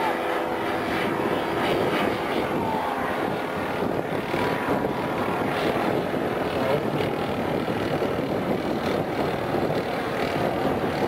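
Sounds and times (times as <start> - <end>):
falling whine of passing plane: 0.0 - 11.0
model aircraft engines buzzing: 0.0 - 11.0.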